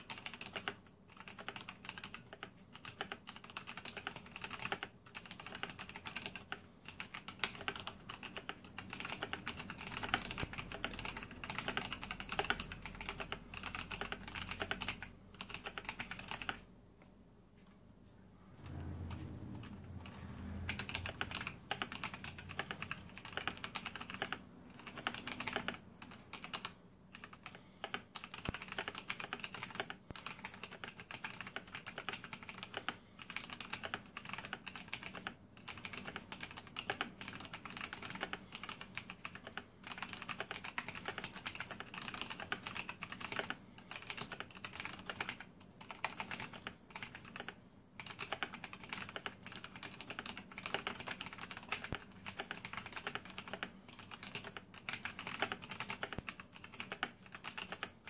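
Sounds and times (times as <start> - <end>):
mechanical keyboard typing: 0.0 - 16.6, 18.6 - 58.0.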